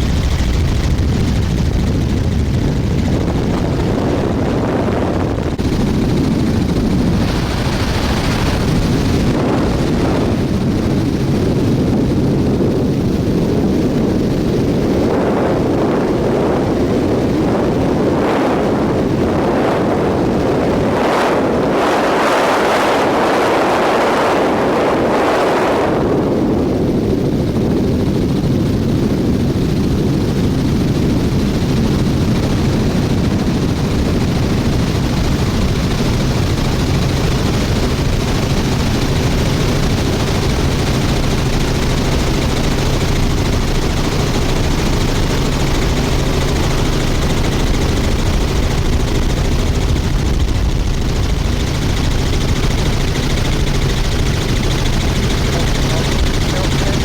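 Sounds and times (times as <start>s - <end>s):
helicopter rotor and engine rumble: 0.0s - 57.0s.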